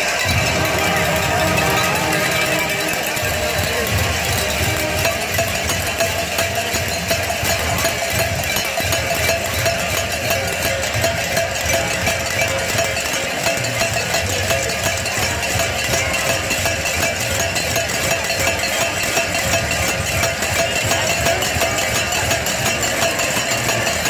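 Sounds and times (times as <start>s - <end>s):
crowd ringing cowbells: 0.0s - 24.0s.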